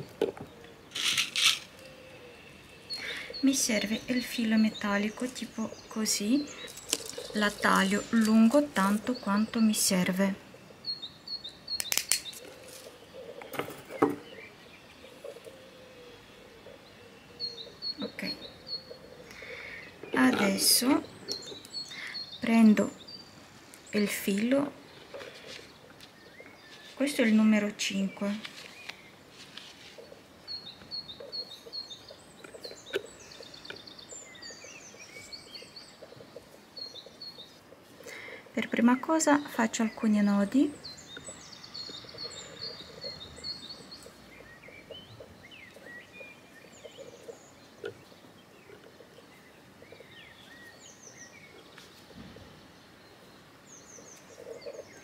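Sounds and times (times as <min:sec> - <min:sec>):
small birds chirping: 0:00.0 - 0:55.0
songbird singing: 0:00.0 - 0:55.0.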